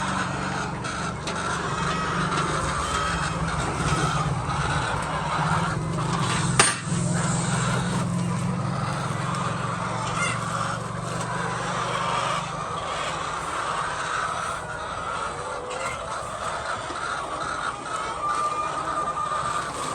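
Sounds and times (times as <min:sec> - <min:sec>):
chickens calling: 0:00.0 - 0:19.9
mechanical hum: 0:00.0 - 0:19.9.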